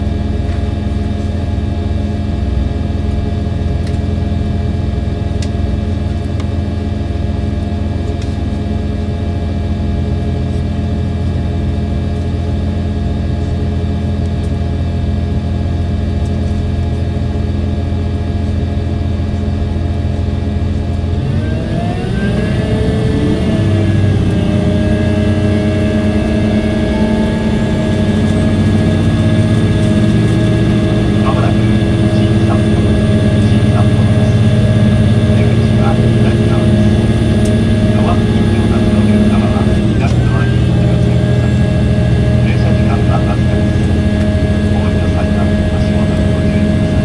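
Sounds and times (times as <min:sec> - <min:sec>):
diesel railcar engine running: 0:00.0 - 0:47.0.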